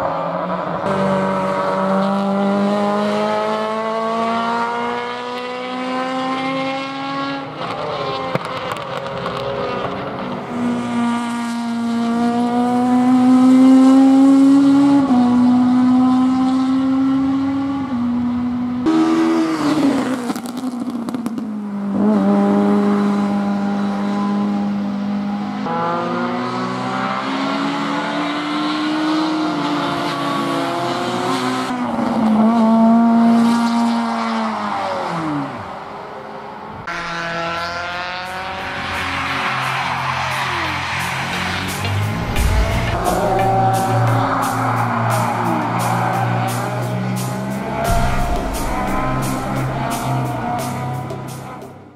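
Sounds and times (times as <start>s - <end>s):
car engine at full throttle: 0.0s - 51.9s.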